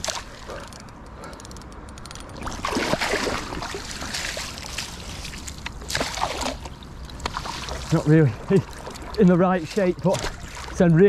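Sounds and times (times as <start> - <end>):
river water splashing: 0.0 - 0.9, 2.3 - 11.0.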